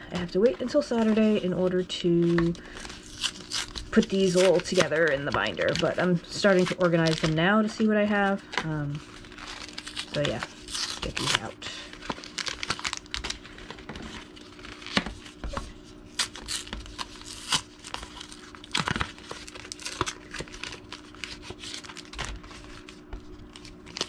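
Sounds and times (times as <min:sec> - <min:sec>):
packaging crinkling and tearing: 0:02.2 - 0:24.0.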